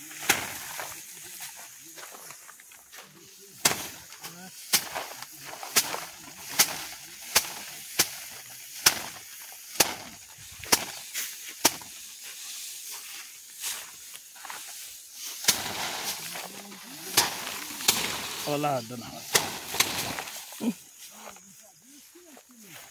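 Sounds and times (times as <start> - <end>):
rice stalks slapping on hard surface: 0.0 - 1.5, 3.5 - 20.8.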